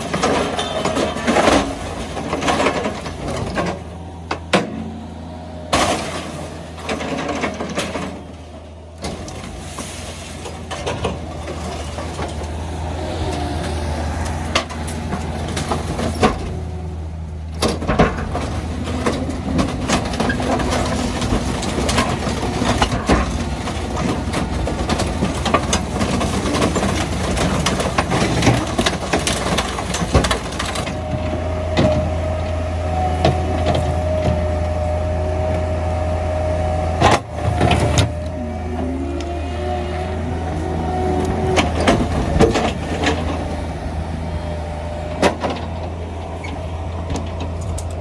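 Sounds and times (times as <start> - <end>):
waste cracking in compactor: 0.0 - 44.2
garbage truck engine running: 0.0 - 48.0.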